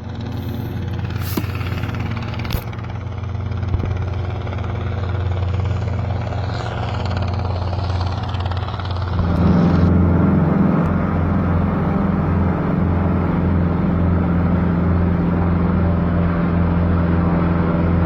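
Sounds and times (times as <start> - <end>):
helicopter rotor and engine: 0.0 - 18.0.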